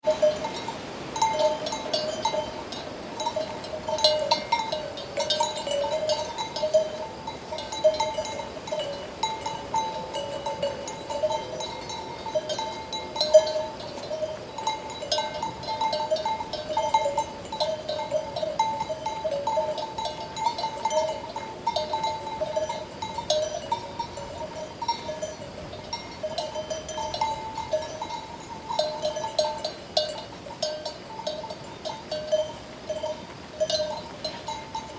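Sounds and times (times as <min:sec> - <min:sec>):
animal neck bells clanking: 0:00.0 - 0:34.9.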